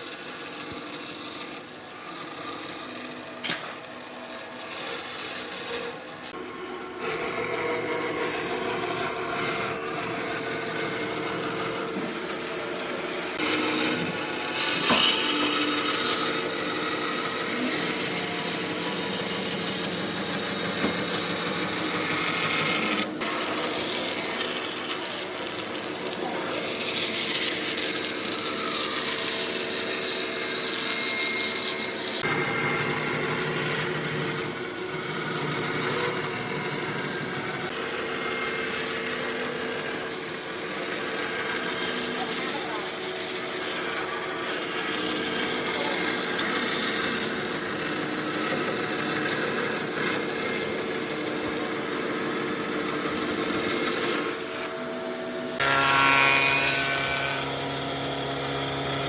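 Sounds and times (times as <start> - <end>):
power tool whining on wood: 0.0 - 59.0.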